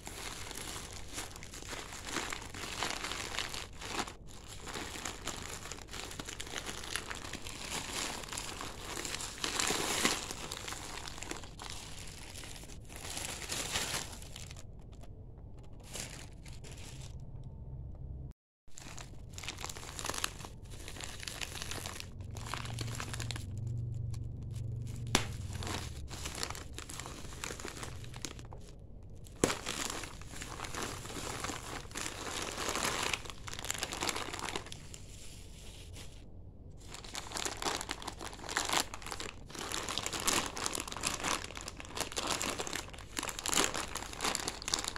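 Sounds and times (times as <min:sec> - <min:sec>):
plastic packaging crinkling: 0:00.0 - 0:17.4, 0:18.7 - 0:44.9.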